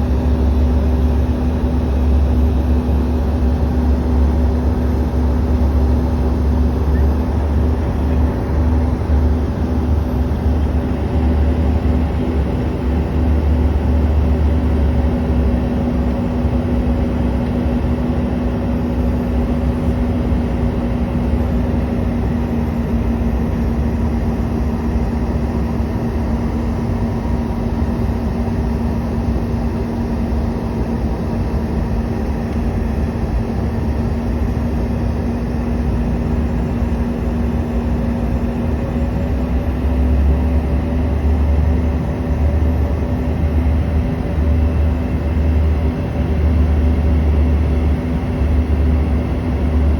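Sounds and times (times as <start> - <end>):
jet cabin engine hum: 0.0 - 49.9.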